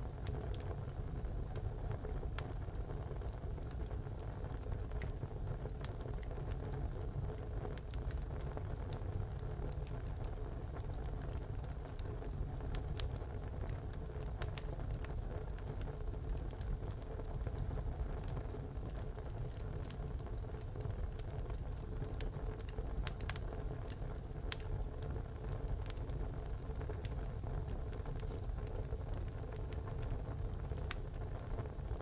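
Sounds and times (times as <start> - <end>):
low rumble of flames: 0.0 - 32.0
wood crackling and popping: 0.0 - 32.0.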